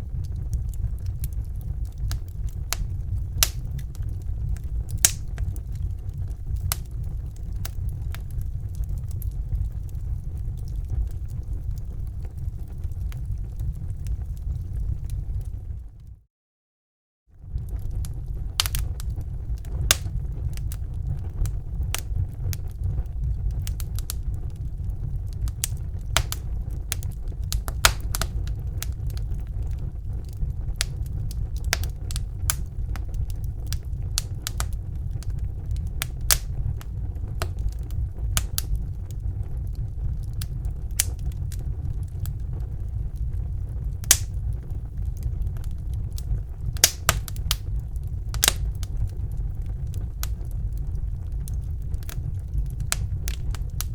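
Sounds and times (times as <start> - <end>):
low rumble: 0.0 - 16.2, 17.4 - 53.9
wood fire crackling: 0.0 - 16.2, 17.4 - 53.9.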